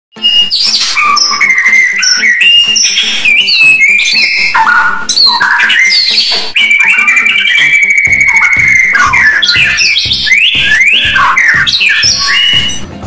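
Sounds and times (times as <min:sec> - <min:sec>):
bird singing whistled notes: 0:00.1 - 0:12.8.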